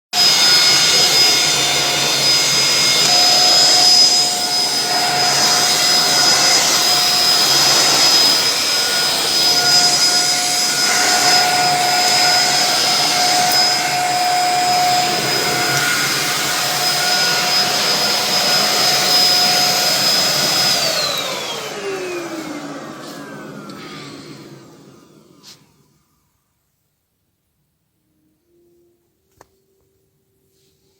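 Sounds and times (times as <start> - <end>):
handheld vacuum cleaner whining: 0.0 - 26.0.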